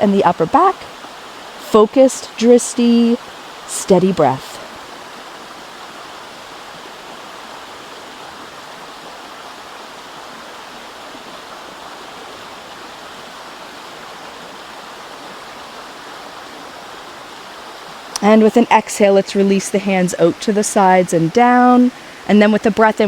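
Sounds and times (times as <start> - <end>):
river rushing over stones: 0.0 - 23.0.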